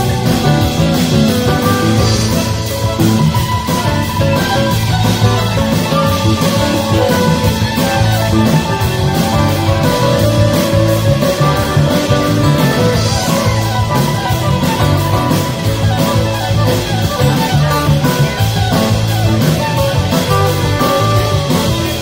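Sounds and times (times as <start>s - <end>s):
plucked strings: 0.0s - 22.0s
steady drum beat: 0.0s - 22.0s
sustained melody notes: 0.0s - 22.0s.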